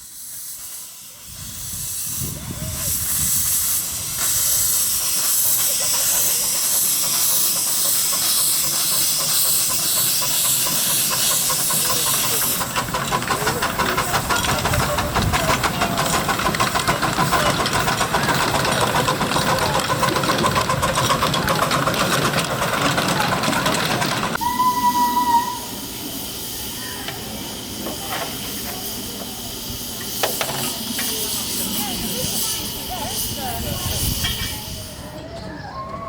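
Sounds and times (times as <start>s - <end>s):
steam exhaust beat: 0.0s - 35.1s
steam locomotive hissing: 0.0s - 36.0s.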